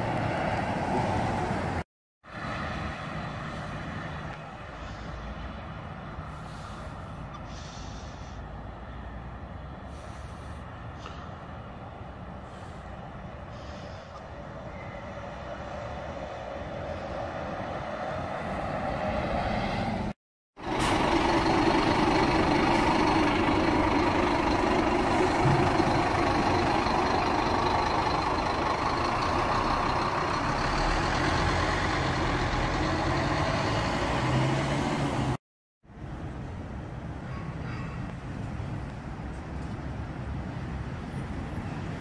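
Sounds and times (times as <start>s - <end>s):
bus engine running: 0.0s - 35.4s
road noise: 0.0s - 42.0s.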